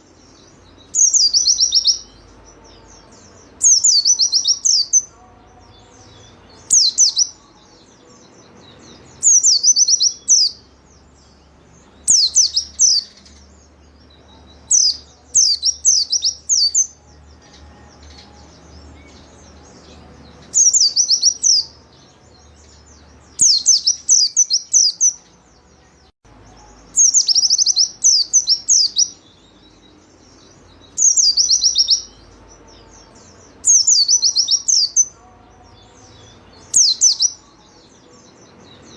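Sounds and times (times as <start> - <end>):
bird singing rapid trills: 0.0 - 38.9.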